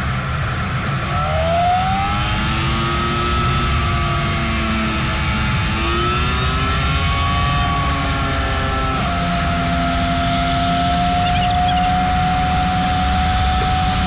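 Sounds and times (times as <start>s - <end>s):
car engine rumbling and whining: 0.0s - 14.0s.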